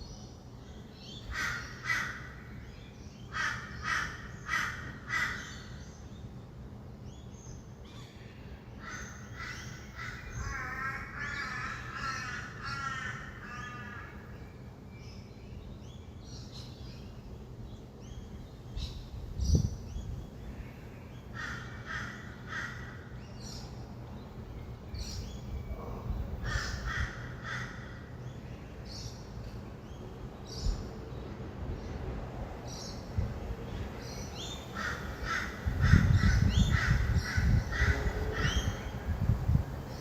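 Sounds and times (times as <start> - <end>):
birds harsh calls: 0.0 - 6.4, 7.1 - 15.2, 16.0 - 40.0
distant traffic rumble: 0.0 - 40.0.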